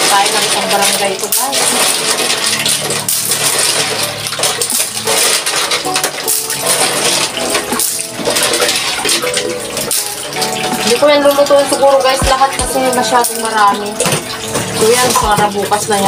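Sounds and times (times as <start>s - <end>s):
clams clattering in a colander: 0.0s - 16.0s
water splashing into a sink: 0.0s - 16.0s.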